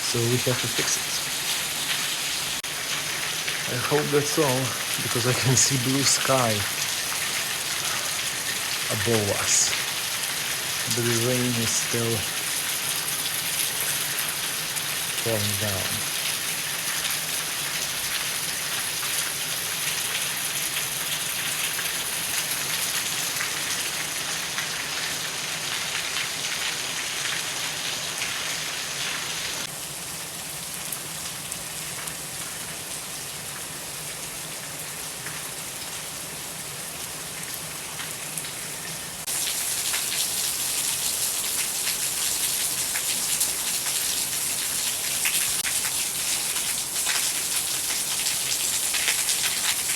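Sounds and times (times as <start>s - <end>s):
heavy rain falling: 0.0s - 29.8s, 36.8s - 49.9s.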